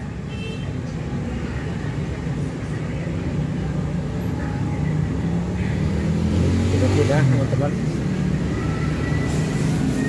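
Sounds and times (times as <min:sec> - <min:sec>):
vehicle engine rumble: 0:00.0 - 0:10.0.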